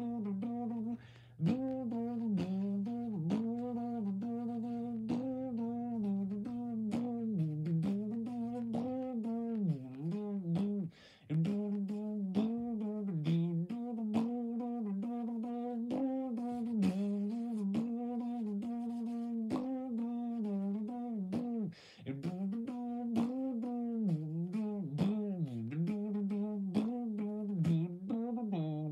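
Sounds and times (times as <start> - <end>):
person imitating tractor engine: 0.0 - 28.9.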